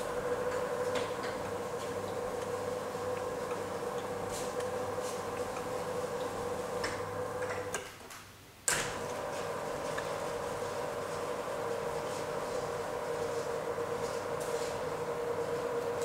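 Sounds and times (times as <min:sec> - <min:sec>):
roller blind motors humming: 0:00.0 - 0:07.8, 0:08.7 - 0:16.0.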